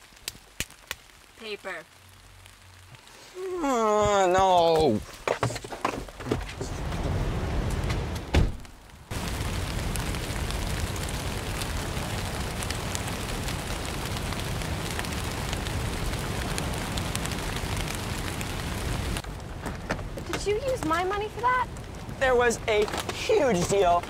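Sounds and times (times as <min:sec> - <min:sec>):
heavy rain: 0:00.0 - 0:05.2, 0:06.1 - 0:24.0.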